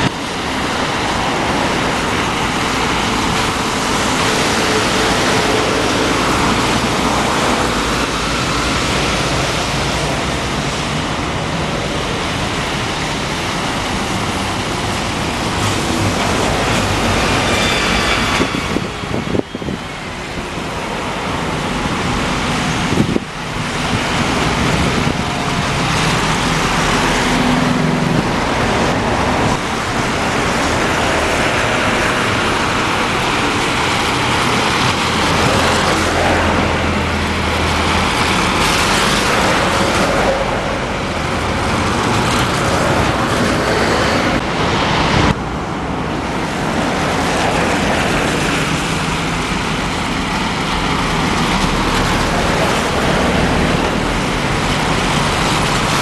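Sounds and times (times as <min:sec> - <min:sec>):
buses passing: 0:00.0 - 0:56.0
road and traffic noise: 0:00.0 - 0:56.0.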